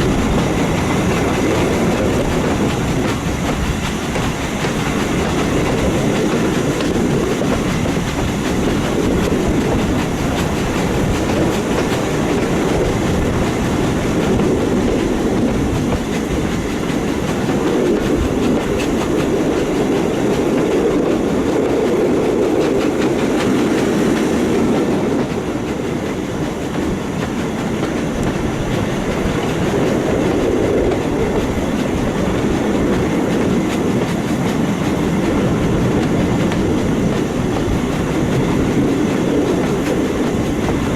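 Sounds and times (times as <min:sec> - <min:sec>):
steam train rumbling: 0:00.0 - 0:40.9
wheels clacking over rail joints: 0:00.0 - 0:40.9.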